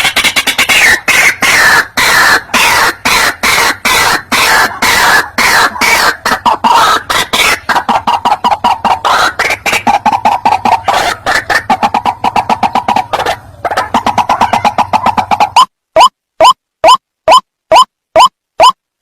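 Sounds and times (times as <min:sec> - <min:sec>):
bird calling harsh notes: 0:00.0 - 0:18.8.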